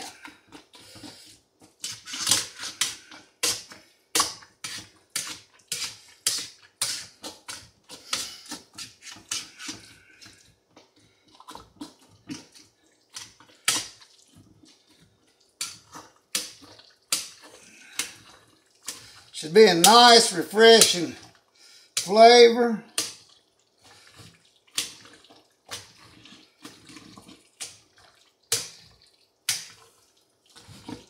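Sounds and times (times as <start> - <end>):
potato masher squelching fruit: 0.0 - 31.0.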